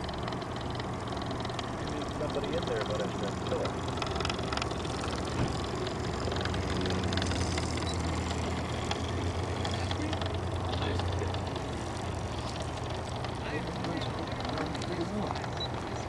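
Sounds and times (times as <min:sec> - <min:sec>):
low steady hum: 0:00.0 - 0:16.0
steam engine chuffing: 0:00.0 - 0:16.0.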